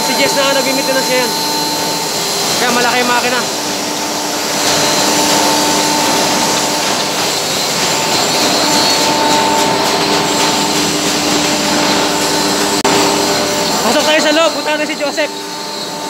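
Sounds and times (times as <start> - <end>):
blower rushing: 0.0 - 16.0
motors running tones: 0.0 - 16.0.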